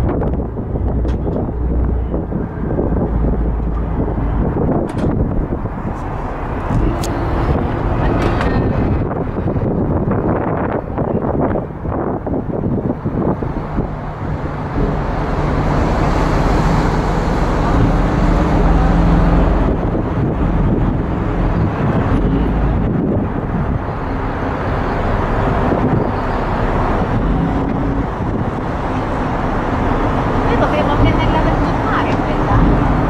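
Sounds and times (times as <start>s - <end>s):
churning wake water: 0.0s - 33.0s
ferry engines droning: 0.0s - 33.0s
wind on microphone: 0.0s - 33.0s.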